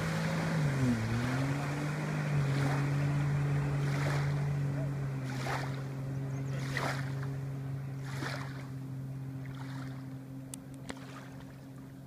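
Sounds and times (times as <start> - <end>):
watercraft engine running: 0.0 - 12.0.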